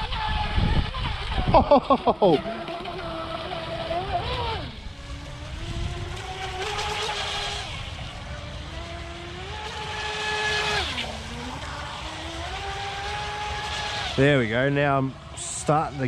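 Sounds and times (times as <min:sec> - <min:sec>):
boat electric motor whining: 0:00.0 - 0:16.0.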